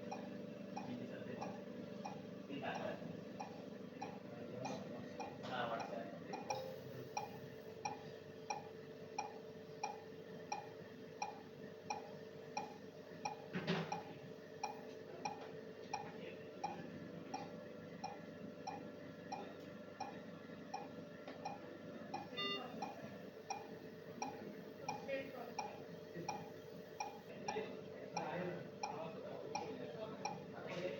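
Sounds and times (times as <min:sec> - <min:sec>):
ventilator hum: 0:00.0 - 0:30.9.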